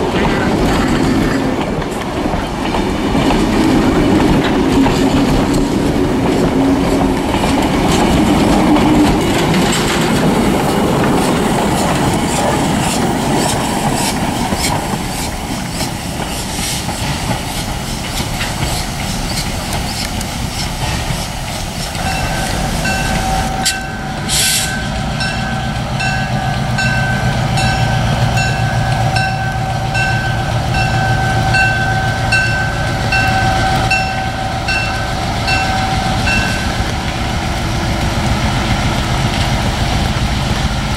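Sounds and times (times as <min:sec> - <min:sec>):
distant train rumble: 0:00.0 - 0:40.9
train wheels clicking over rail joints: 0:00.0 - 0:40.9.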